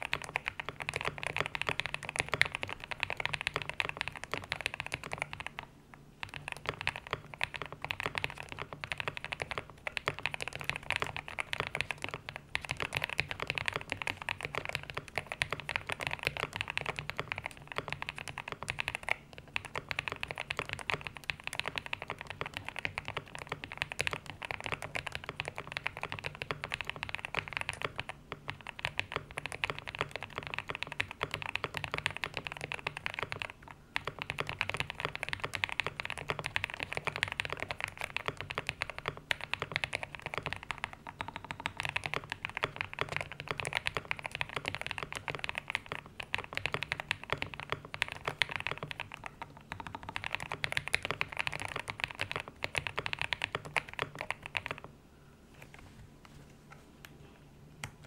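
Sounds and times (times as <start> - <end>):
mechanical keyboard typing: 0.0 - 54.9.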